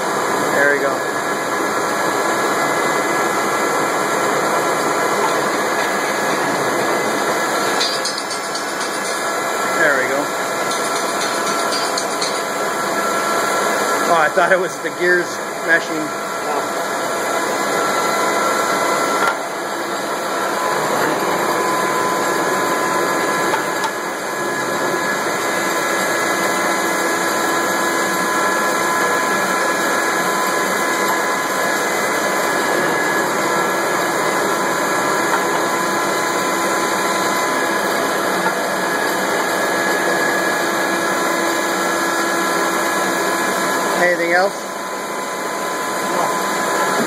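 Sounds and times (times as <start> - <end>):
lathe motor hum: 0.0 - 47.0.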